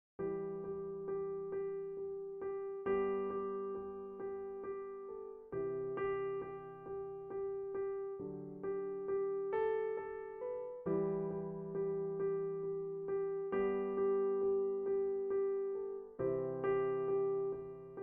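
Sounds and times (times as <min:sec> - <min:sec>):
electric piano music: 0:00.2 - 0:18.0.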